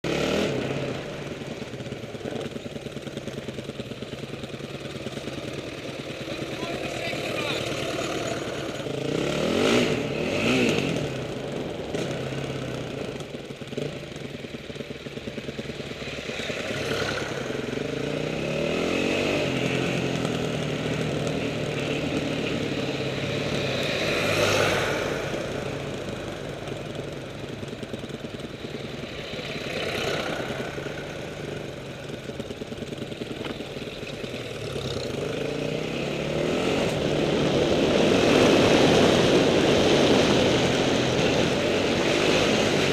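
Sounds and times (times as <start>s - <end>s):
tractor engines passing by: 0.0s - 42.9s.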